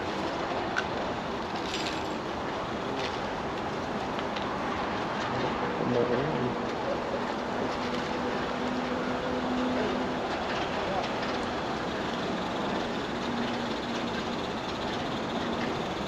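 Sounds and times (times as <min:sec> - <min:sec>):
train rushing noise: 0:00.0 - 0:16.0.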